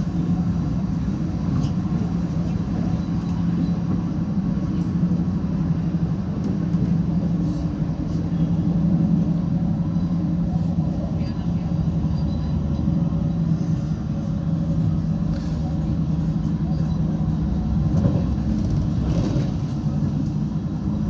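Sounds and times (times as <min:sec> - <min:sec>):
diesel train engine drone: 0:00.0 - 0:21.0.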